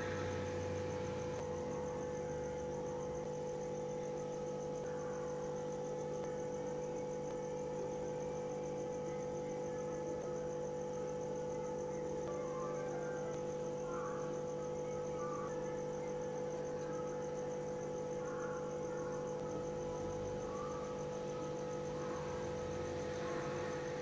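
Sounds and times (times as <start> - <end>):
crickets trilling: 0.0 - 24.0
hum of held tones: 0.0 - 24.0.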